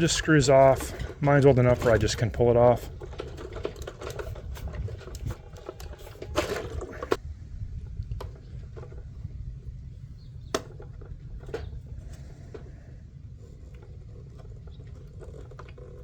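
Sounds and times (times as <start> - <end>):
plastic parts scraping: 0.0 - 7.2, 10.4 - 16.0
steady low rumble: 0.0 - 15.0.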